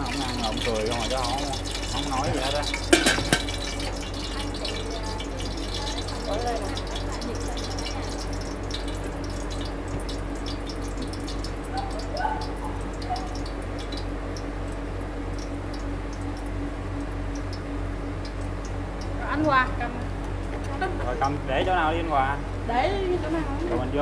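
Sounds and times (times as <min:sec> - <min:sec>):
hot oil sizzling and crackling: 0:00.0 - 0:24.0
low hum: 0:00.0 - 0:24.0.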